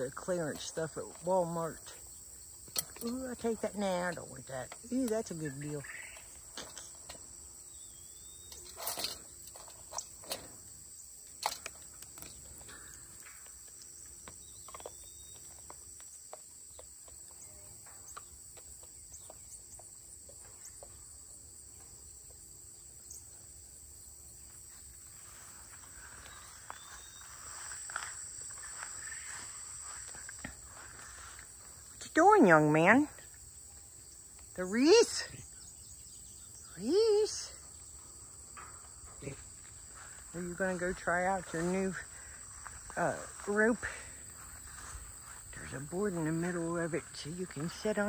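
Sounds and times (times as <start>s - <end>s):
insect chirring: 0.0s - 48.0s.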